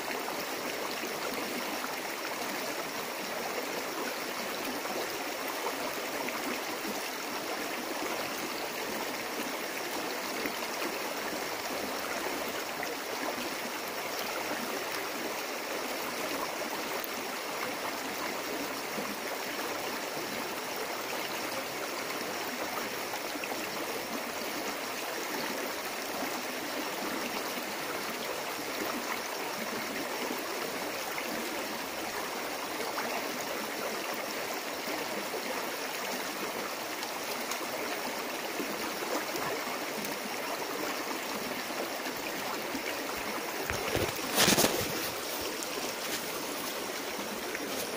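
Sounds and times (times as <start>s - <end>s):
stream flowing over stones: 0.0s - 47.9s.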